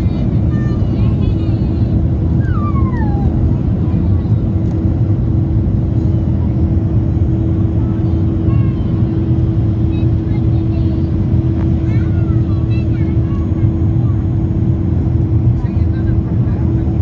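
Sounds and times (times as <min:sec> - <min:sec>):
airliner cabin engine roar: 0:00.0 - 0:17.0.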